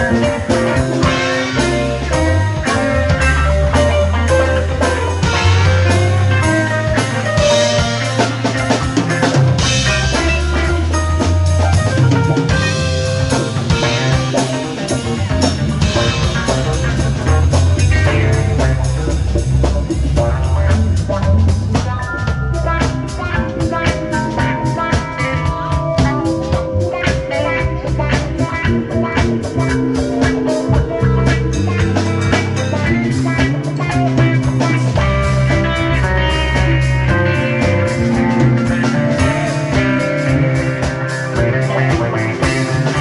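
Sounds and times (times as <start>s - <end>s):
bass guitar: 0.0s - 43.0s
drum kit: 0.0s - 43.0s
electric guitars: 0.0s - 43.0s.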